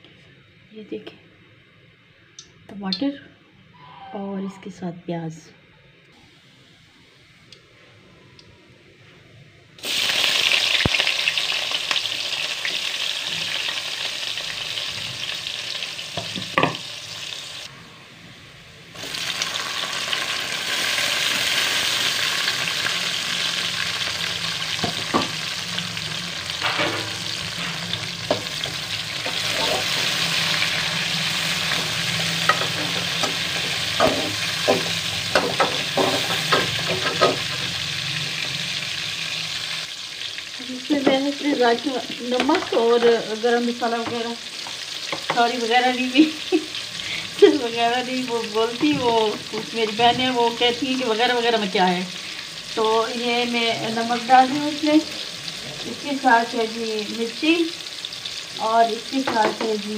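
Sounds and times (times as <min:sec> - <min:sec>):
vegetables sizzling in hot oil: 0:09.8 - 0:17.8, 0:18.6 - 0:59.9.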